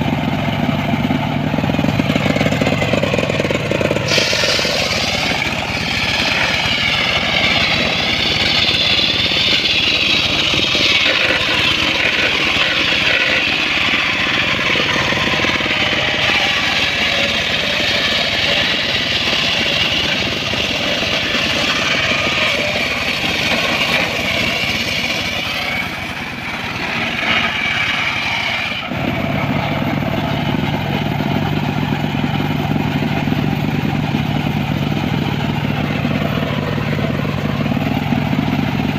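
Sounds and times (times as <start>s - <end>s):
circular saw cutting wood: 0.0s - 38.9s
saw spinning free hum: 0.0s - 38.9s.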